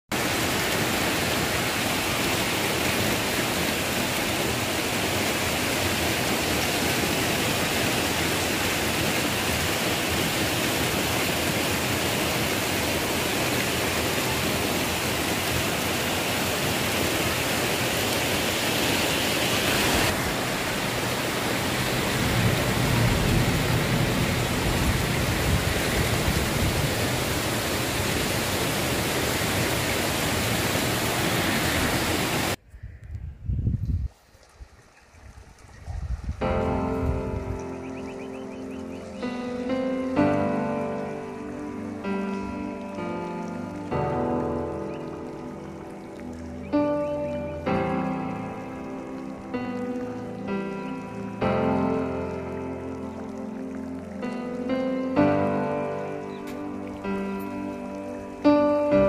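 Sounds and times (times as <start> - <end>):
heavy rain falling: 0.1 - 32.6, 36.4 - 59.0.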